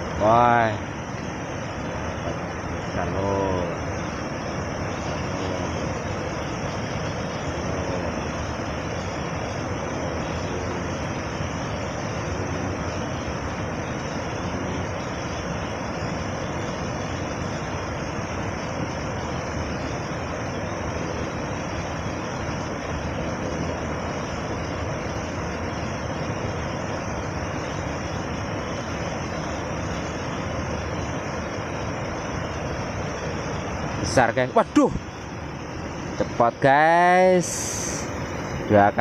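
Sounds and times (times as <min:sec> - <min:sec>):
steady rushing noise: 0:00.0 - 0:39.0.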